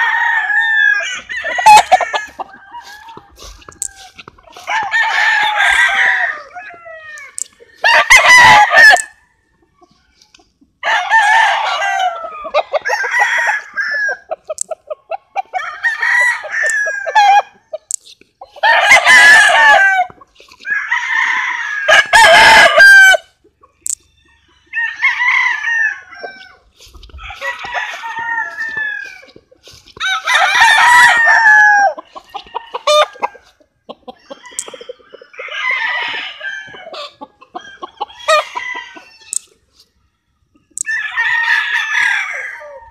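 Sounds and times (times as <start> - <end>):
roosters crowing: 0.0 - 39.8, 40.4 - 42.9.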